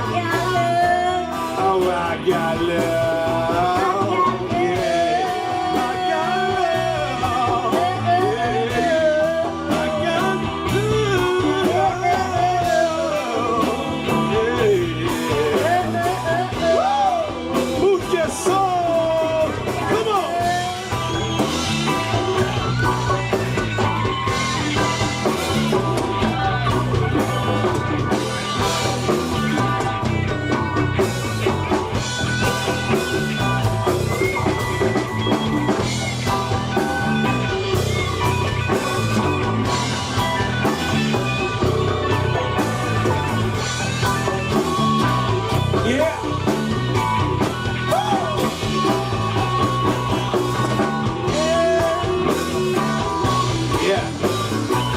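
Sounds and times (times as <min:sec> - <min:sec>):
bass: 0:00.0 - 0:54.9
drum kit steady beat: 0:00.0 - 0:54.9
guitar: 0:00.0 - 0:54.9.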